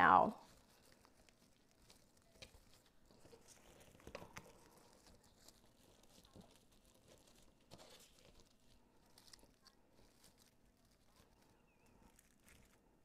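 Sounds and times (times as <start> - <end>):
faint rustles of artificial foliage: 0.0 - 13.0.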